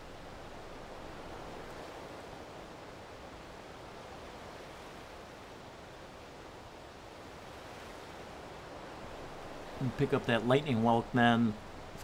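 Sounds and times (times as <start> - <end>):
surf washing on beach: 0.0 - 12.0
wind: 0.0 - 12.0.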